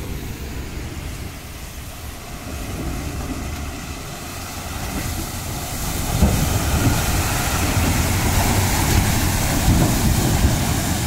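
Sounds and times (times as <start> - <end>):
truck diesel engine under load: 0.0 - 11.0
tyres churning wet mud: 0.0 - 11.0.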